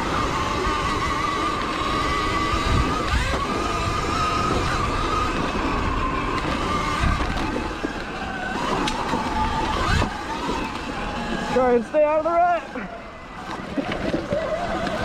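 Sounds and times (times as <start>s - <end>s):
electric motorbike motor whining: 0.0s - 15.0s
trail rumble: 0.0s - 15.0s
wind: 0.0s - 15.0s.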